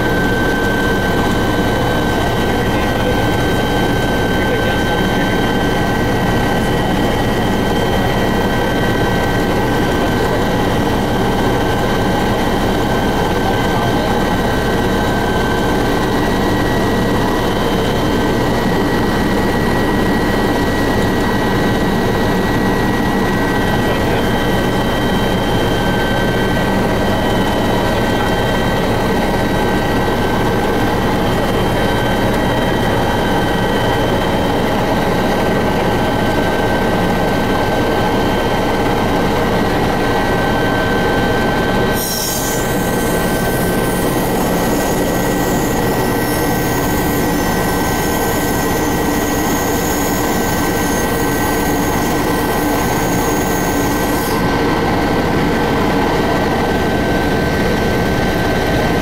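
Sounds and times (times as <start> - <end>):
helicopter rotor drone: 0.0 - 59.0
high-pitched turbine whine: 0.0 - 59.0.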